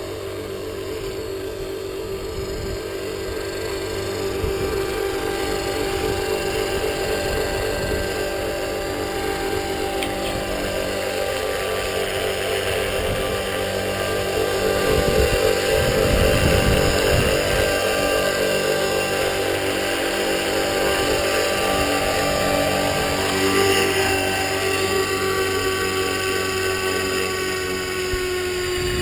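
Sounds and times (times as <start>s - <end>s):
model helicopter motor whine: 0.0s - 29.0s
rotor blades chopping: 0.0s - 29.0s.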